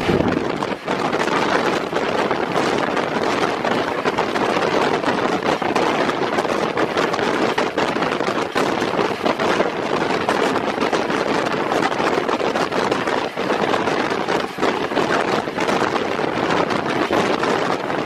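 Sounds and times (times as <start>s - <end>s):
wind rush over microphone: 0.0s - 18.0s.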